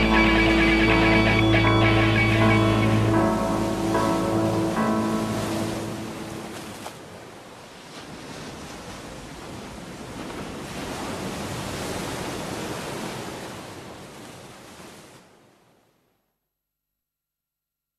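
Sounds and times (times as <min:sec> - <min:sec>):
ocean waves breaking on beach: 0:00.0 - 0:16.2.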